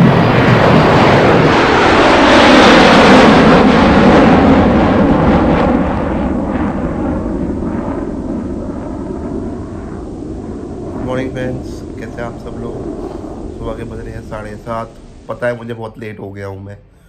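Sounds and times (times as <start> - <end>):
loud noisy rumble: 0.0 - 17.0.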